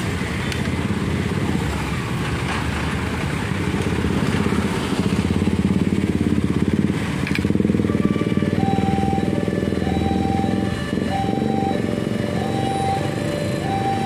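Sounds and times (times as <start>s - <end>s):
motorcycle engines: 0.0s - 14.0s
small truck engine: 0.0s - 14.0s.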